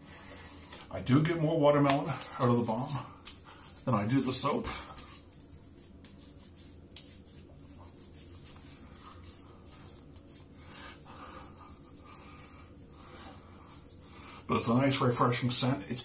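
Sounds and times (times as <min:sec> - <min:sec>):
hands rubbing skin and beard: 0:01.7 - 0:15.8.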